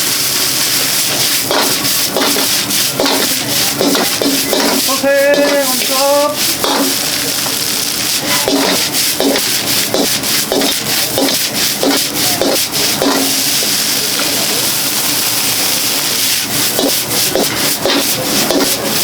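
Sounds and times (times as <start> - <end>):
ladle scraping and knocking wok: 0.0 - 19.0
wok sizzling: 0.0 - 19.0.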